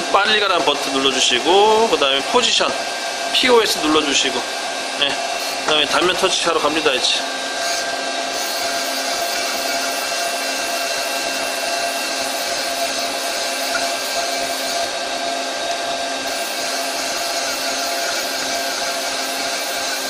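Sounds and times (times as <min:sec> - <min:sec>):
lathe running with steady whir: 0:00.0 - 0:20.0.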